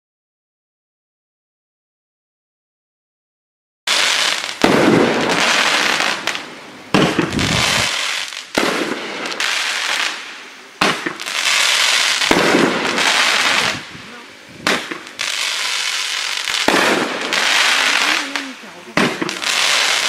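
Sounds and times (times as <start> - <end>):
firework crackling: 3.9 - 20.0
firework launch bangs: 3.9 - 20.0.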